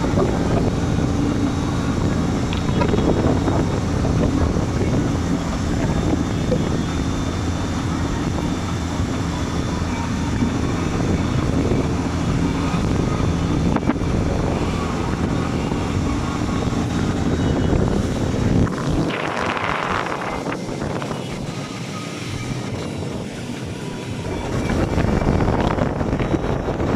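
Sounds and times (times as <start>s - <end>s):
boat engine running: 0.0s - 26.9s
wind buffeting microphone: 0.0s - 26.9s.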